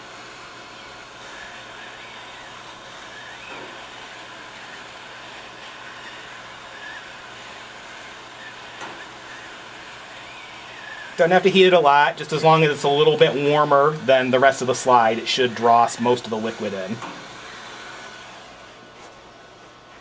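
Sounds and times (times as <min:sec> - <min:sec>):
hot-air torch hissing: 0:00.0 - 0:20.0.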